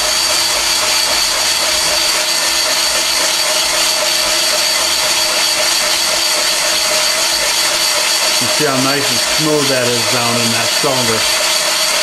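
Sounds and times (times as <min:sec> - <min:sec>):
boring bar cutting metal: 0:00.0 - 0:12.0
high steady whine: 0:00.0 - 0:12.0.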